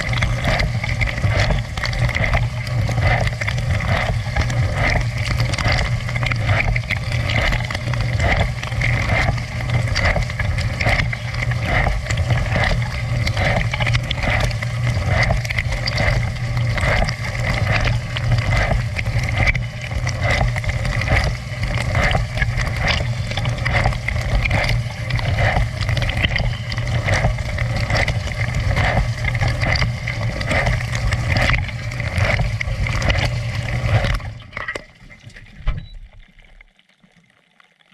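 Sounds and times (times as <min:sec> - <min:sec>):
dishwasher pump hum: 0:00.0 - 0:36.1
water spraying and sloshing: 0:00.0 - 0:36.7.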